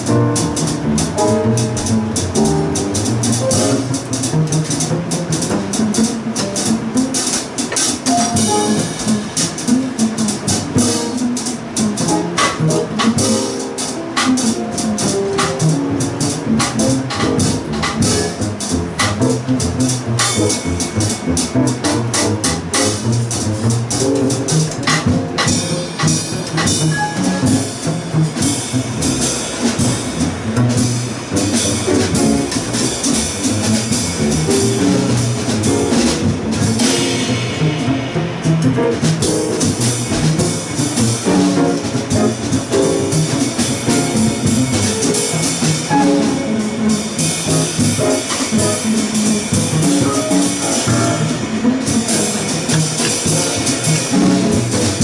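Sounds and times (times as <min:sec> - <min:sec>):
double bass: 0:00.0 - 0:55.0
drum kit with cymbal wash: 0:00.0 - 0:55.0
grand piano: 0:00.0 - 0:55.0.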